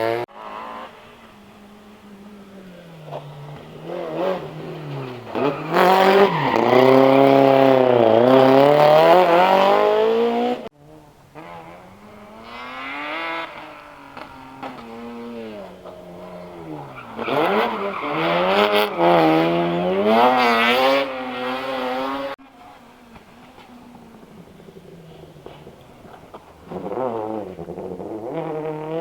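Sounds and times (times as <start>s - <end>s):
rally car engine revving: 0.0s - 29.0s
second rally car engine revving: 0.0s - 29.0s.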